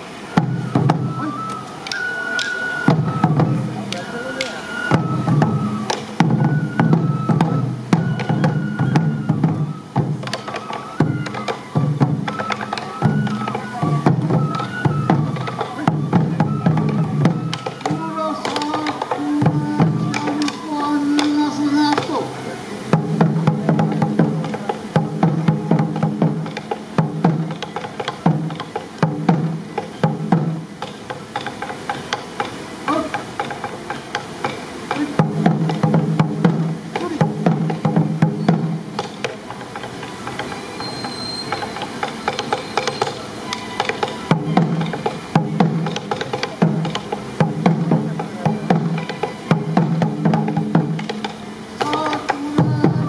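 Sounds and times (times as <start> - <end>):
bamboo flute melody: 0.0 - 53.0
taiko drums beating: 0.0 - 53.0.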